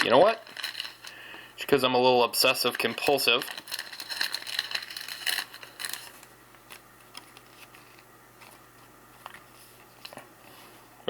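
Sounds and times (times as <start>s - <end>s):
cards rustling: 0.0s - 1.4s, 2.3s - 10.9s.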